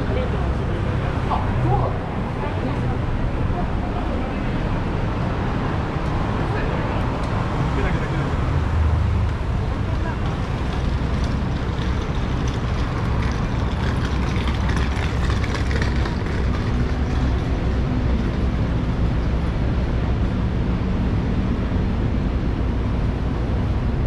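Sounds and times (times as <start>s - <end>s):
engine hum: 0.0s - 24.0s
low rumble of traffic: 0.0s - 24.0s.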